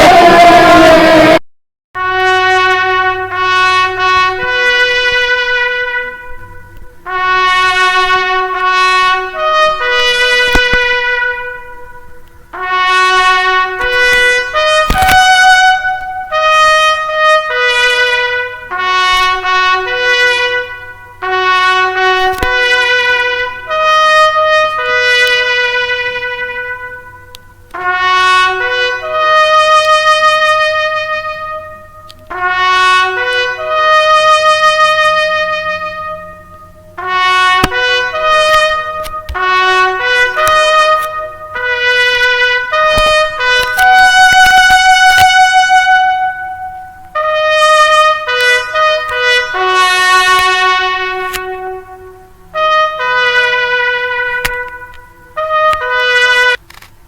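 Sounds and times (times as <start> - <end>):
solo brass melody: 0.0 - 1.4, 2.0 - 56.9.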